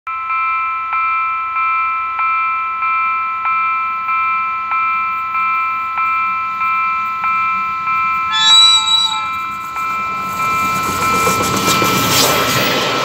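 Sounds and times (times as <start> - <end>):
level crossing warning bell ringing: 0.1 - 12.7.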